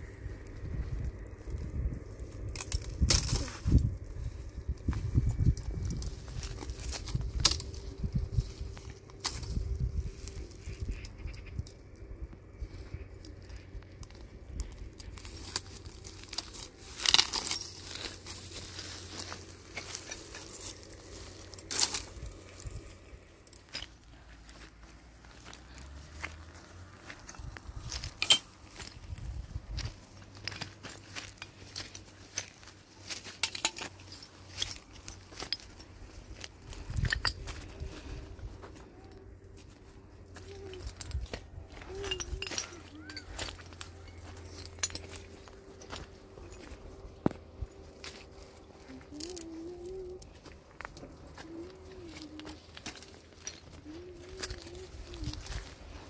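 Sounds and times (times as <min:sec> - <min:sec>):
dry material crinkling and rustling: 0:02.1 - 0:56.0.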